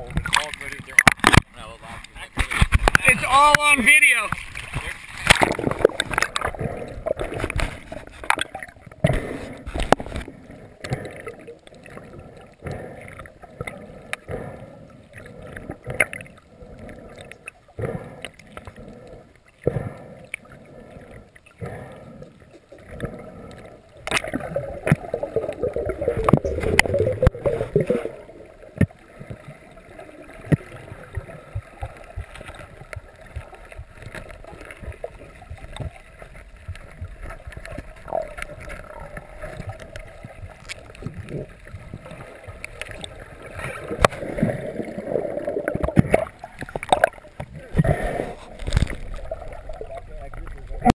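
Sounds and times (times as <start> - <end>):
muffled underwater water noise: 0.0 - 50.9.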